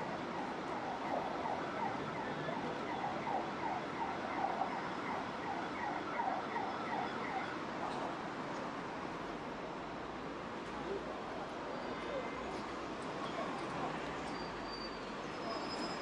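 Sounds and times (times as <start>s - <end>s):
traffic hum: 0.0s - 16.0s.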